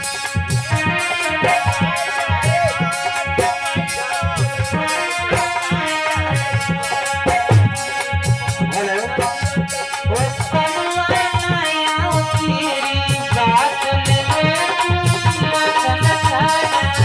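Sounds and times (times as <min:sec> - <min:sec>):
dholak drum rhythm: 0:00.0 - 0:17.0
keyboard melody: 0:00.0 - 0:17.0.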